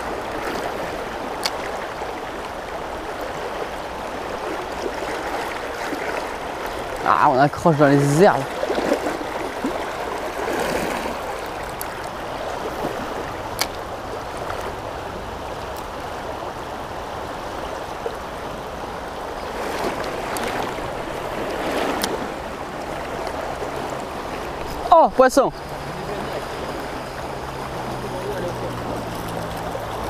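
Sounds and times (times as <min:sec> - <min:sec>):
river water rushing over stones: 0:00.0 - 0:30.0.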